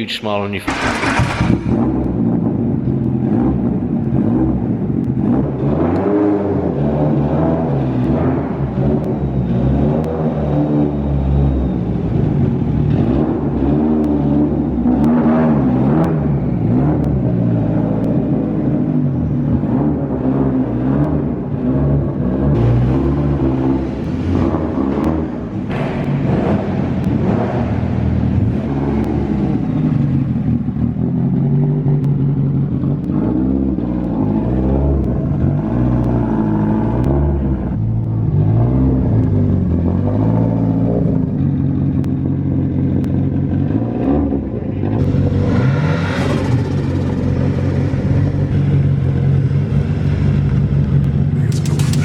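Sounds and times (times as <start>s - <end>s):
rally car engine revving: 0.6s - 52.0s.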